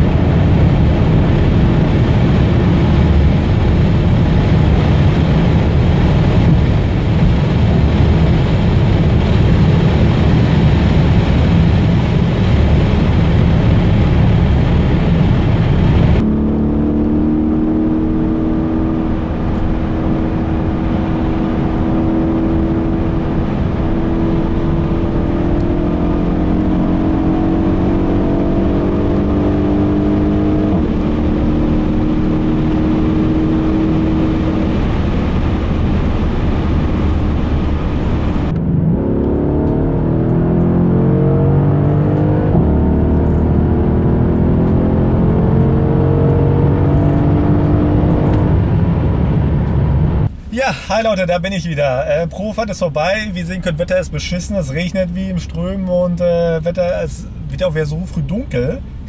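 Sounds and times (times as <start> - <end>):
car engine running steadily: 0.0 - 59.0
wind and road noise: 0.0 - 59.0.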